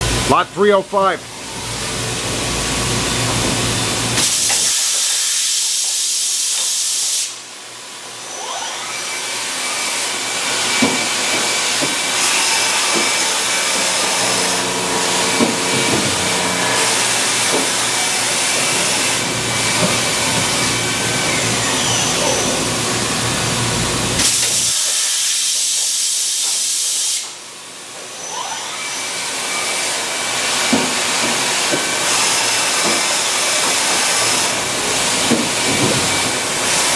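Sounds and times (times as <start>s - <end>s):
loud machine hissing: 0.0s - 27.6s, 28.4s - 36.9s.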